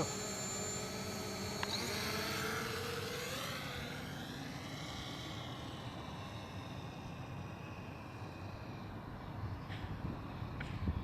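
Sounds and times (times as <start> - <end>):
drone propellers whining: 0.0 - 10.8.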